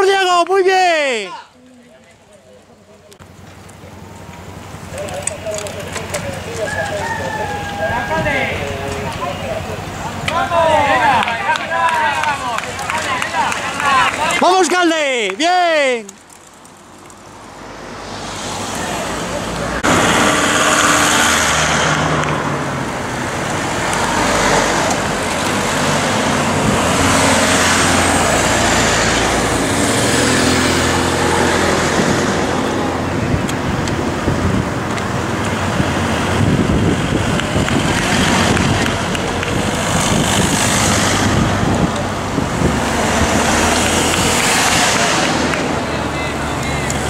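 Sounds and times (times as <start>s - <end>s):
cars passing by: 0.0s - 47.0s.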